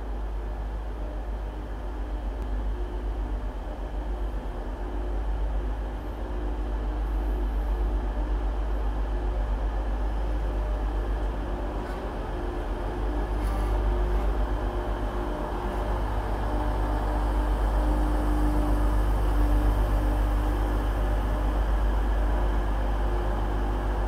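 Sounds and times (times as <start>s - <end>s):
diesel train engines droning: 0.0s - 24.0s.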